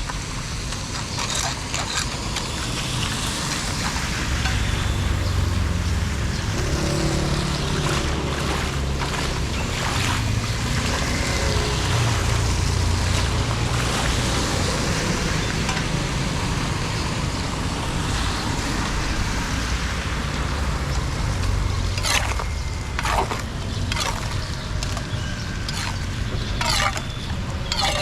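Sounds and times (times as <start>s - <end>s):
floodwater rushing through a drain: 0.1s - 28.0s.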